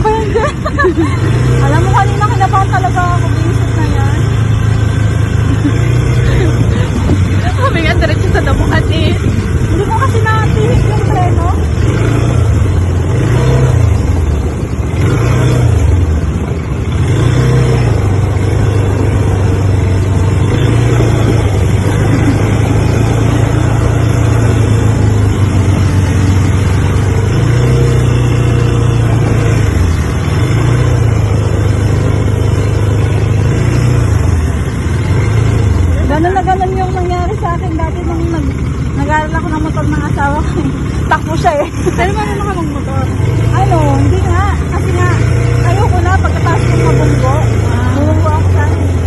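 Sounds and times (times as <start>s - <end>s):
atv engine revving: 0.0s - 49.0s.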